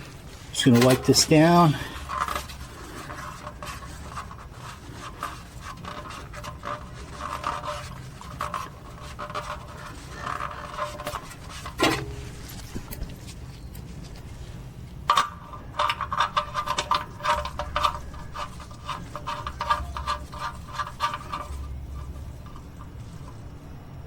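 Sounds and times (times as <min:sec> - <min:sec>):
hand rubbing and scraping: 0:00.0 - 0:24.0.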